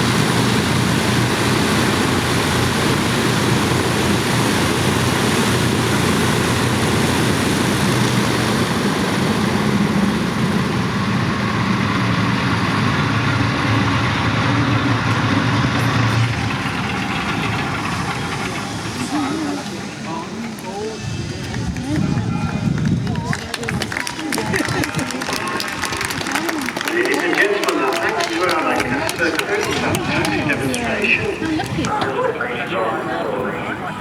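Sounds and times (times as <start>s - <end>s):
aircraft engines droning: 0.0s - 34.0s.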